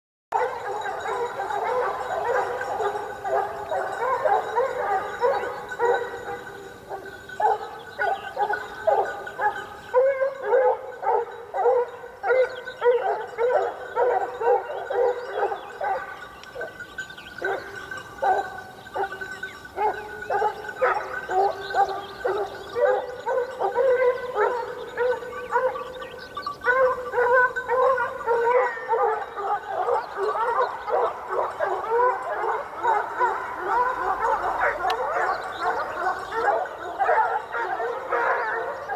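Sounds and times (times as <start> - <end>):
dogs barking and yelping: 0.3 - 38.9.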